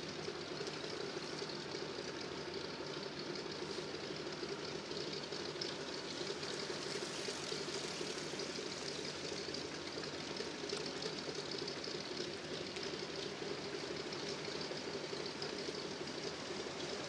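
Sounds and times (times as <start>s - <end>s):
radial aircraft engine idling: 0.0s - 17.0s.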